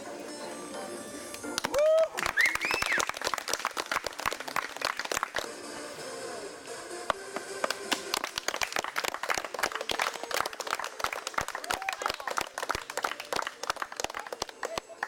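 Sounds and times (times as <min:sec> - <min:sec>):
people clapping: 0:01.3 - 0:05.5, 0:07.1 - 0:15.0.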